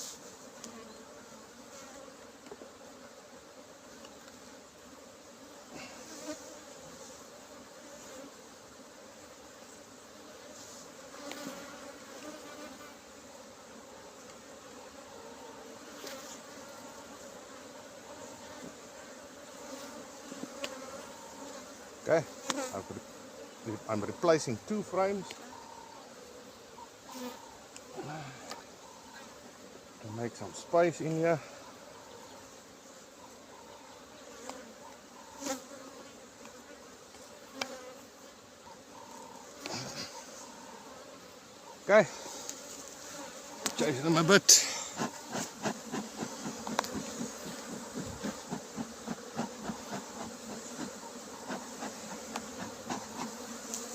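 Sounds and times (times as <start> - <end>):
honeybees buzzing: 0.0 - 53.9.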